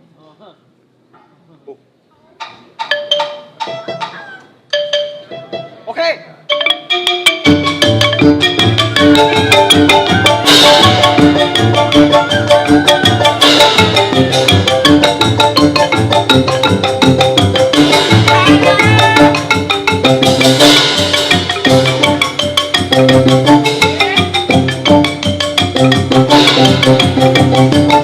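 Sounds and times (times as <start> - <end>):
mallet percussion music: 2.4 - 28.0
low accompaniment: 4.6 - 28.0.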